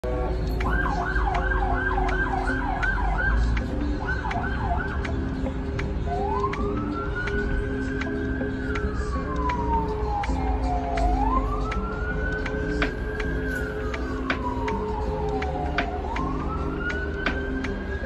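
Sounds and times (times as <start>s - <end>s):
emergency siren yelp and wail: 0.6s - 18.0s.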